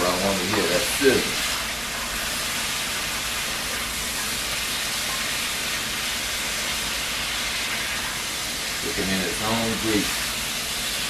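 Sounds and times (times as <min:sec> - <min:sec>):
ribs sizzling in a pot: 0:00.0 - 0:11.0.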